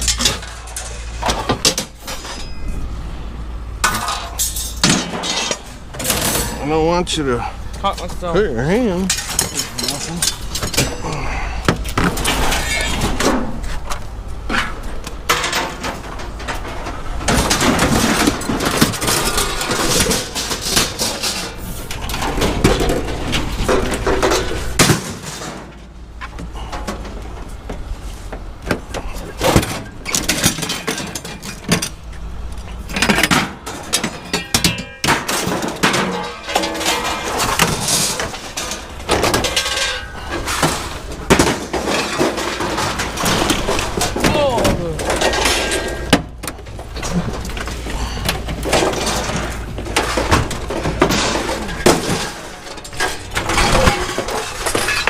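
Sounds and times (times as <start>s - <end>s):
scrap metal clanging onto a pile: 0.0s - 2.9s, 3.8s - 55.0s
low steady rumble: 0.0s - 55.0s.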